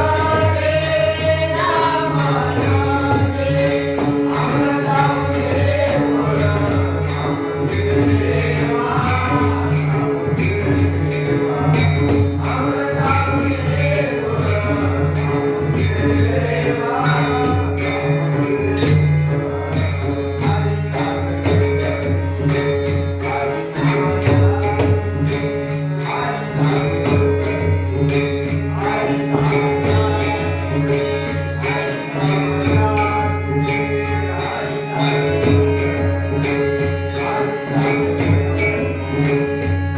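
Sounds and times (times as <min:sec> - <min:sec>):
jingling hand cymbals: 0:00.0 - 0:39.9.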